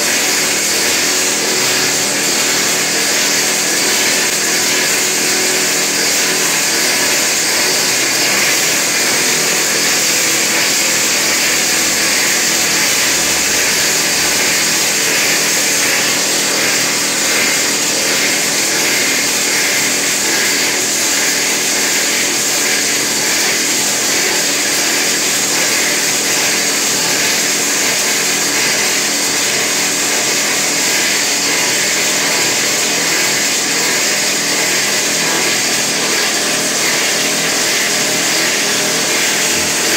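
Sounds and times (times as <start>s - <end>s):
hydraulic rock drill drilling: 0.0s - 39.9s.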